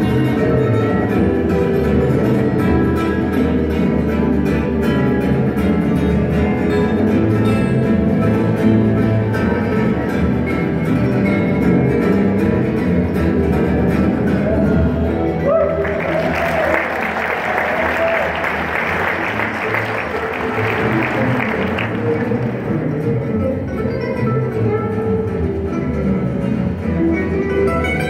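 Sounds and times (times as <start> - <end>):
acoustic guitars playing jazz waltz: 0.0 - 15.5, 18.4 - 28.0.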